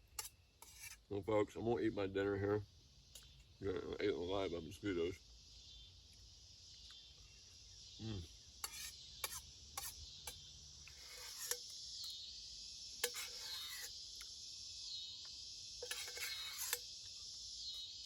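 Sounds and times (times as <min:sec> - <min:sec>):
high drone of insects: 0:00.0 - 0:18.0.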